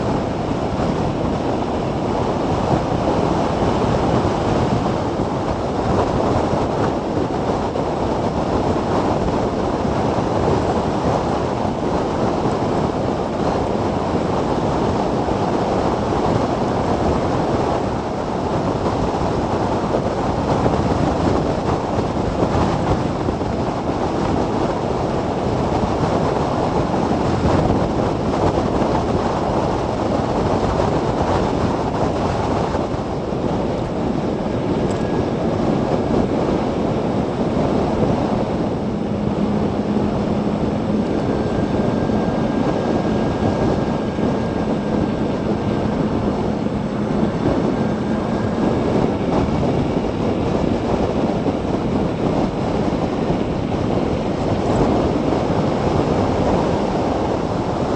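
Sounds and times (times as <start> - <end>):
wind rush and road noise: 0.0 - 57.9.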